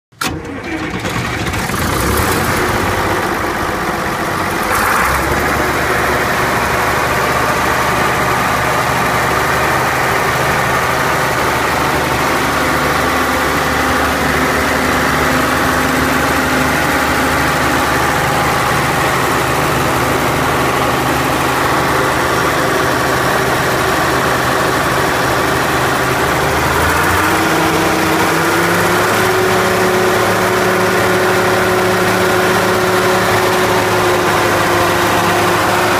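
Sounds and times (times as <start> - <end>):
combine engine running: 0.2 - 35.9.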